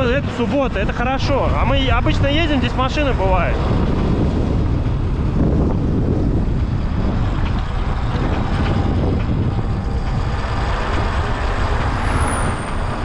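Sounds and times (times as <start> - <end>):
tyre and road rumble: 0.0 - 13.0
wind buffeting microphone: 0.0 - 13.0.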